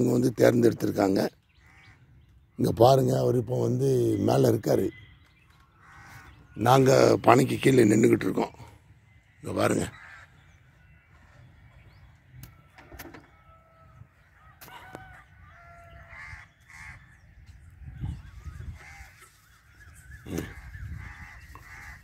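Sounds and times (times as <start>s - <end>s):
birds calling faintly: 0.0s - 22.0s.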